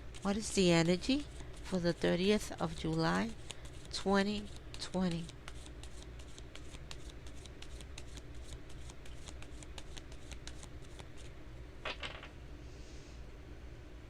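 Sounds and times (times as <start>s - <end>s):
cards being shuffled: 0.1s - 12.3s.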